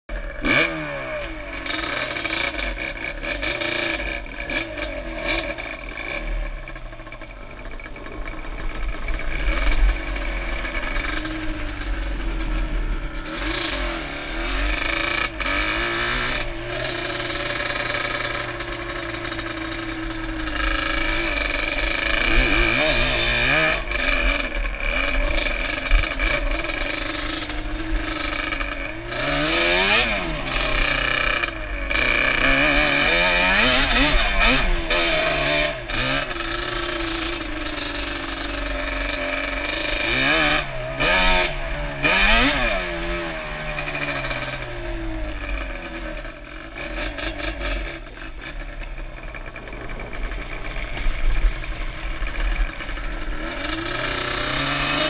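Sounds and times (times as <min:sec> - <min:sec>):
quad engine revving: 0:00.1 - 0:55.0.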